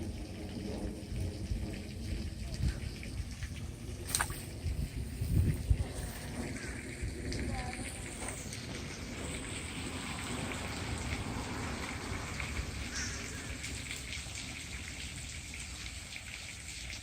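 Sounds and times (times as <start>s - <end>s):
falling water hiss and patter: 0.0s - 17.0s.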